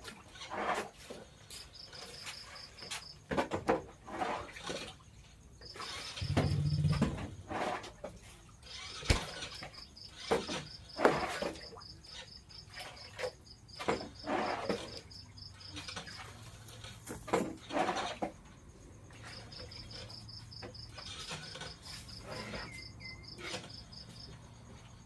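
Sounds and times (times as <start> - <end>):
cricket chirping trill: 0.1 - 25.0.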